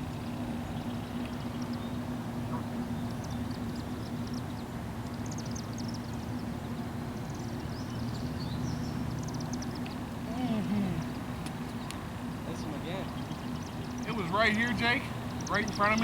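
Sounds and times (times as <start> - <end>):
distant engine hum: 0.0 - 16.0
small birds chirping: 0.1 - 16.0.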